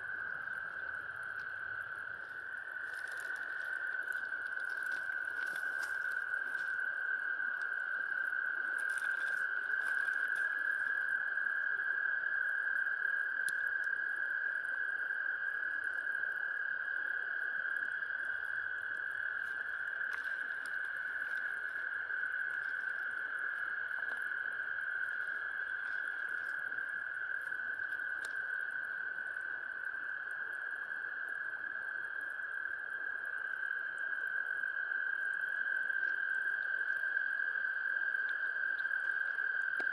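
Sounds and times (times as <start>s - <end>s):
faint ticks: 0.0s - 39.9s
frogs trilling in chorus: 0.0s - 39.9s.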